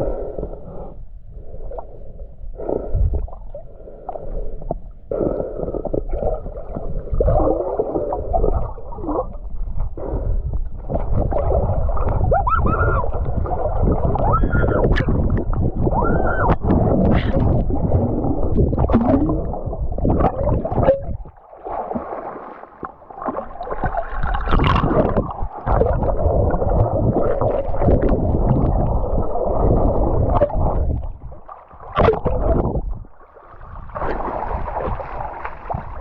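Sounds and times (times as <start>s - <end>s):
underwater rush of moving water: 3.8s - 36.0s
gurgling bubbles: 5.1s - 36.0s.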